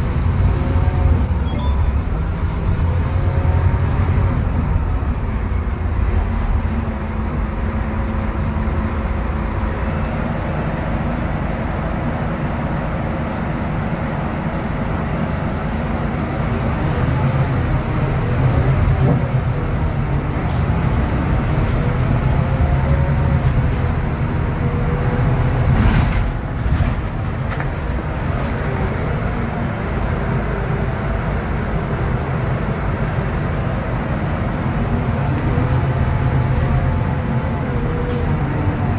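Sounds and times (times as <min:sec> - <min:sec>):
bus diesel engine running: 0:00.0 - 0:38.9
road noise: 0:00.0 - 0:38.9.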